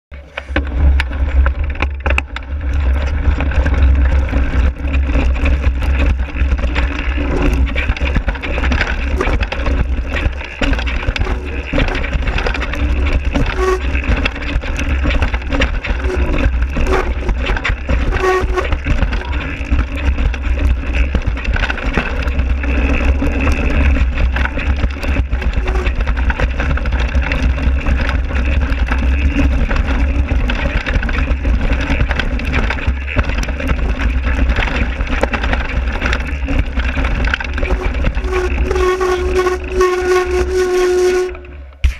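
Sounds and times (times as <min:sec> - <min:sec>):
bike tyre noise: 0:00.1 - 0:41.9
bike knocks and rattles: 0:00.2 - 0:40.4.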